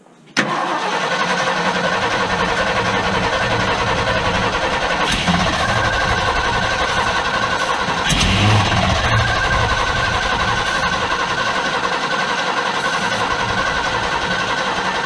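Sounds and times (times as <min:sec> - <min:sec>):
engine cranking on starter: 0:00.4 - 0:15.0.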